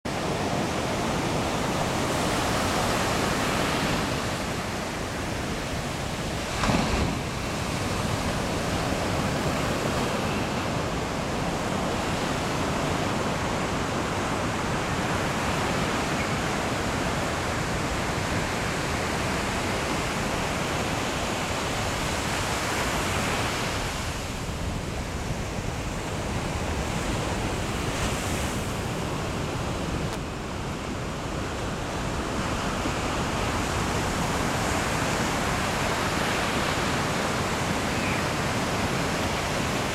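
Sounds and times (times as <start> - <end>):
surf breaking on a beach: 0.1 - 39.9.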